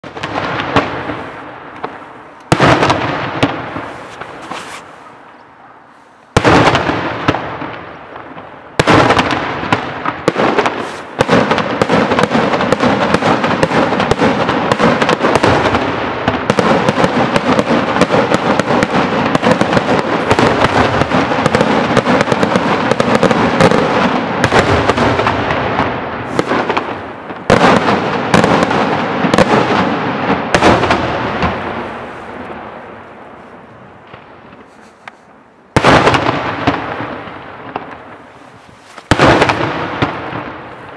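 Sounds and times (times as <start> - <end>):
fireworks bangs and crackling: 0.0 - 5.4, 6.2 - 40.9.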